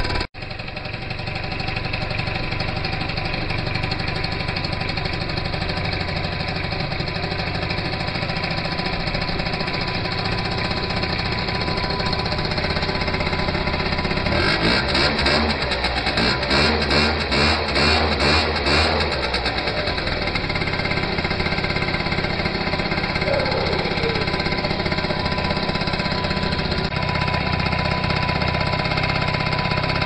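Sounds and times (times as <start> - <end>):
scooter engine idling: 0.0 - 30.0.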